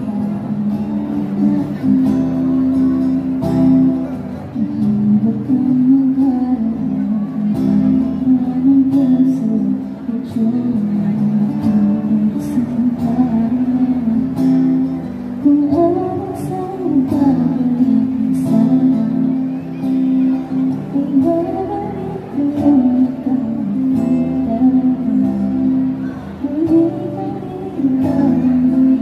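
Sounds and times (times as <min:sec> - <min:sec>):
woman singing: 0:00.0 - 0:02.8, 0:04.6 - 0:29.0
acoustic guitar: 0:00.0 - 0:29.0.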